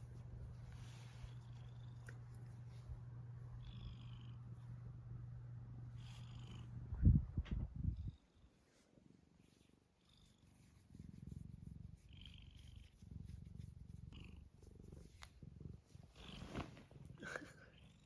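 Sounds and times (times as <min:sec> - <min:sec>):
cat purring softly: 0:00.0 - 0:18.0.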